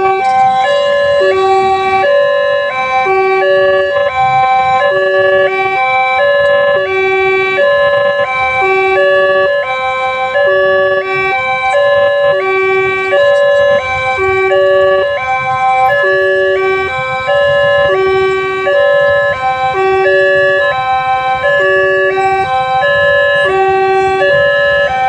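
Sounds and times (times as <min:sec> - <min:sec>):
level crossing electronic siren: 0:00.0 - 0:25.0.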